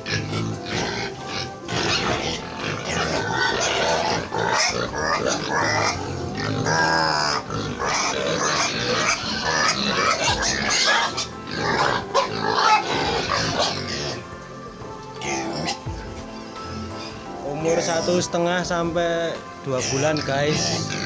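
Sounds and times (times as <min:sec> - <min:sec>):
pig squealing: 0:00.0 - 0:14.3, 0:15.0 - 0:18.3, 0:19.7 - 0:21.0
pigs grunting: 0:00.0 - 0:14.3, 0:15.0 - 0:18.3, 0:19.7 - 0:21.0
background music: 0:00.0 - 0:21.0.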